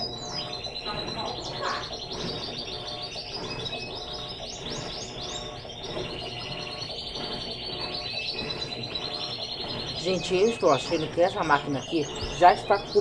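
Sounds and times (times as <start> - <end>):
songbird chirping and trilling: 0.0 - 13.0.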